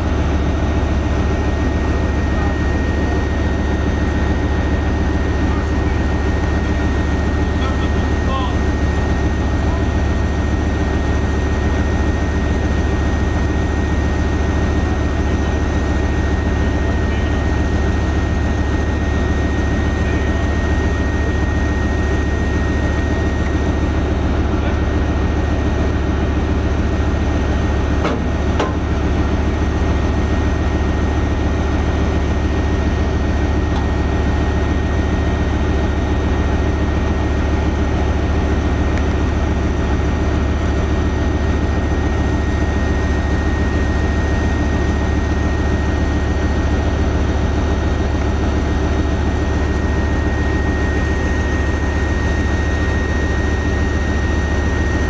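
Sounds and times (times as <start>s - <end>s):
heavy diesel engine idling: 0.0s - 55.0s.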